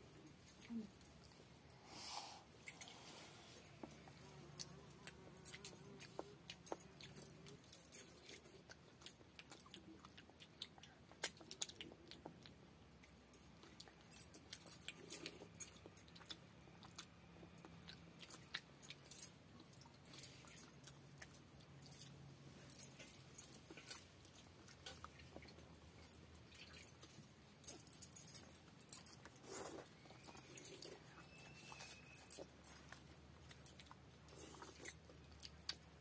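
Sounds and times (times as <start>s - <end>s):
chewing and lip smacks: 3.7s - 36.0s.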